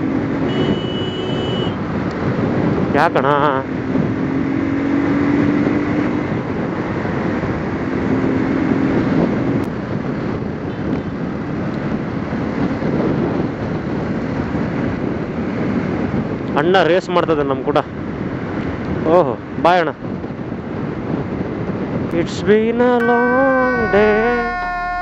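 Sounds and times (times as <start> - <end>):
wind rush on microphone: 0.0 - 23.1
road noise: 0.0 - 25.0.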